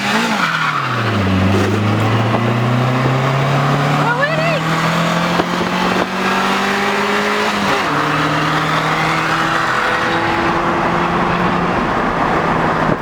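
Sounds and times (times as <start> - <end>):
car engine at full throttle: 0.0 - 13.0
wind and road noise: 0.0 - 13.0.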